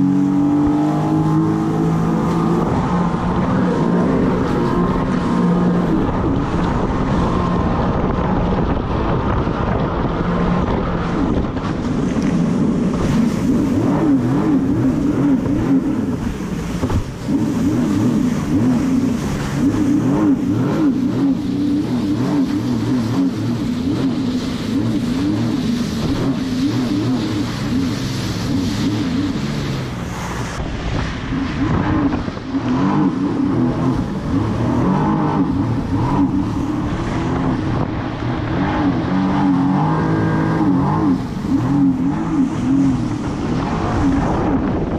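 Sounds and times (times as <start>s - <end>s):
jet ski engine running: 0.0s - 44.9s
wind rushing over microphone: 0.0s - 44.9s.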